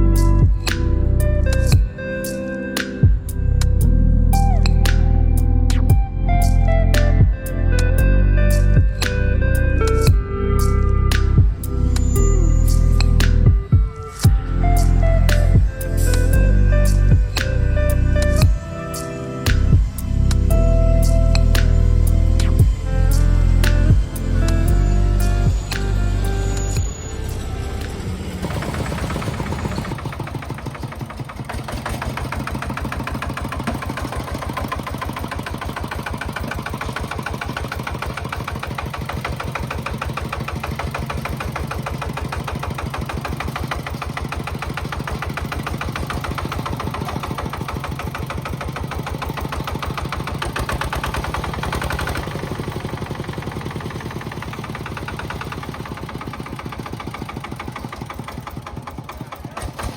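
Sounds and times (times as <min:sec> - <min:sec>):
single-cylinder diesel engine running: 0:00.0 - 0:02.6, 0:03.2 - 0:59.9.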